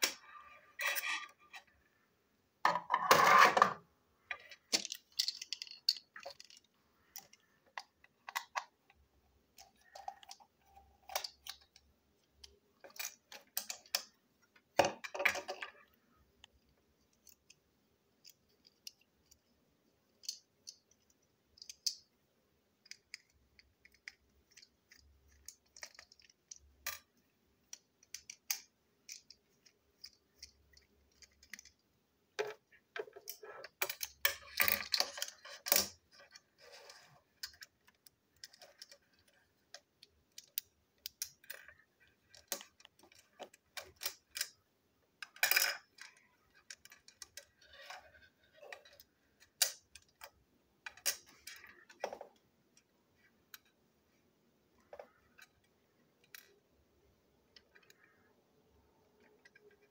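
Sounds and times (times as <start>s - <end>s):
plastic toy parts clicking and clattering: 2.7s - 52.9s, 54.7s - 58.3s, 59.1s - 59.9s.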